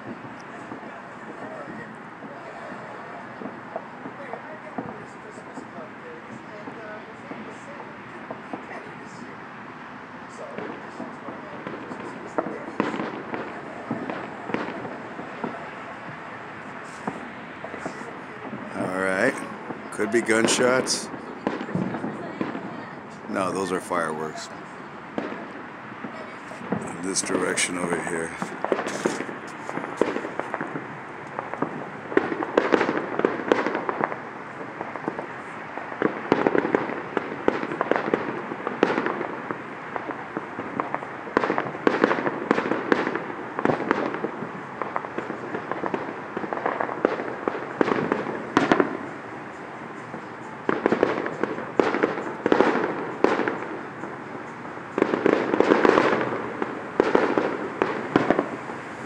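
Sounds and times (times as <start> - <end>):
fireworks bangs and crackling: 0.0 - 59.0
steady background noise: 0.0 - 59.0.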